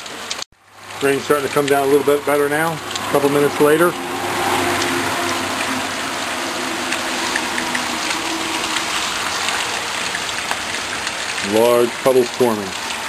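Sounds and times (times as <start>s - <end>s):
rain pouring: 0.0s - 13.0s
raindrops ticking on surfaces: 0.0s - 13.0s.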